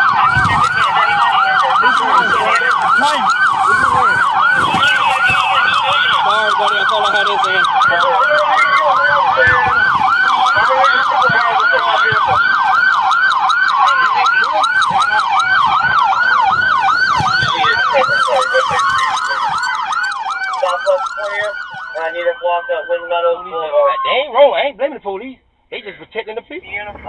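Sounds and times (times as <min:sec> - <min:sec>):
siren tone gliding down: 0:00.0 - 0:24.4
police siren yelp: 0:00.0 - 0:24.6.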